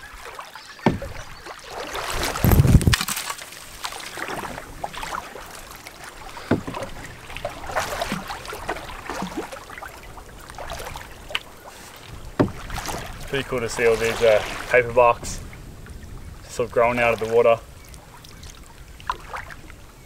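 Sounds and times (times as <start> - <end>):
paddle splashing in water: 0.0 - 20.0.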